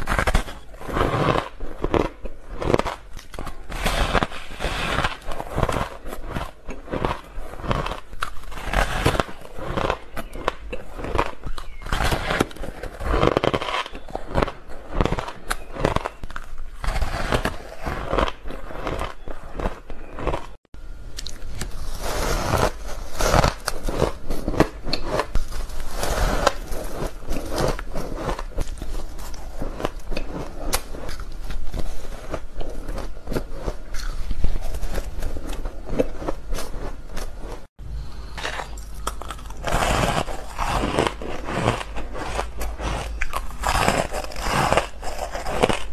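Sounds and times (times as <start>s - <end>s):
crunching and chewing ice: 0.0s - 45.9s.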